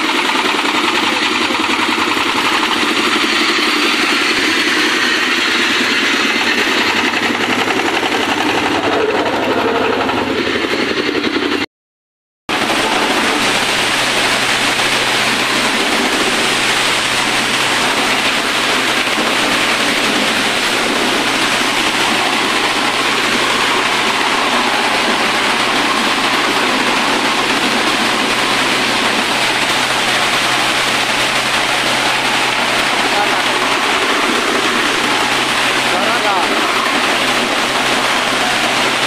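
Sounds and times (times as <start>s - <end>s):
corn sheller rushing noise: 0.0s - 11.6s, 12.5s - 39.0s.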